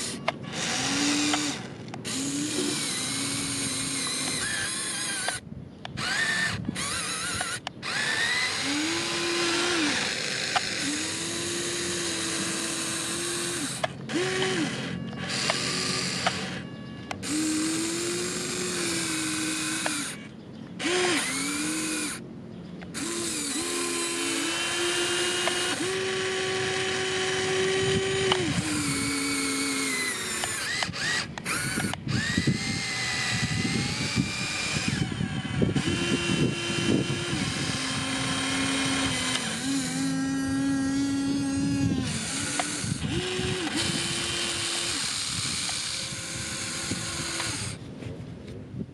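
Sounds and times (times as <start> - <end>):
machine motor whining: 0.0 - 22.2, 22.8 - 47.8.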